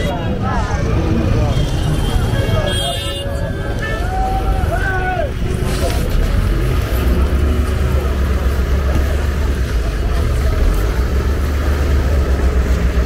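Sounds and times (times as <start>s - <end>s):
busy street market noise: 0.0s - 13.0s.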